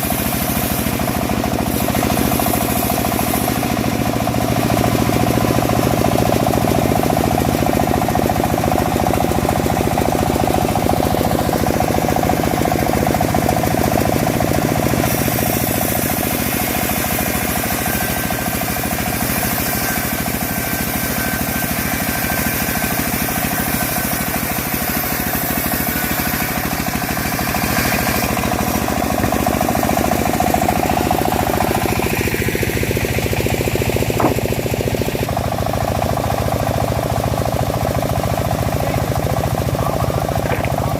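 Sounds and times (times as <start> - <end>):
engine-driven bandsaw mill sawing log: 0.0 - 40.9.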